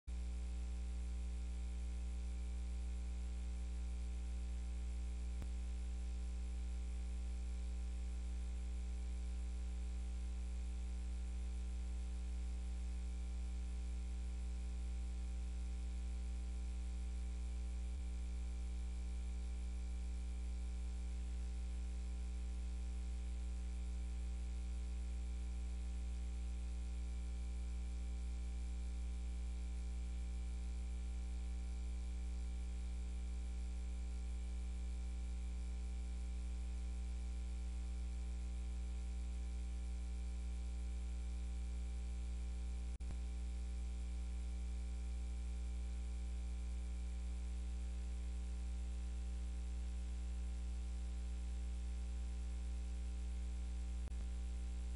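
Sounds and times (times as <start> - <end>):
electrical mains hum: 0.1 - 54.9.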